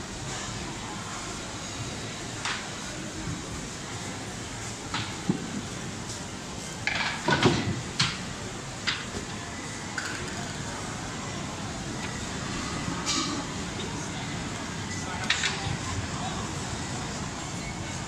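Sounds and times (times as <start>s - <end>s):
hum of people: 0.0s - 18.0s.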